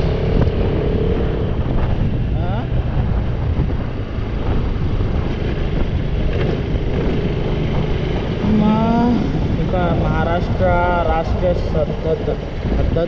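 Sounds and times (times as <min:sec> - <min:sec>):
motorcycle engine running: 0:00.0 - 0:13.0
road and wind noise rumble: 0:00.0 - 0:13.0.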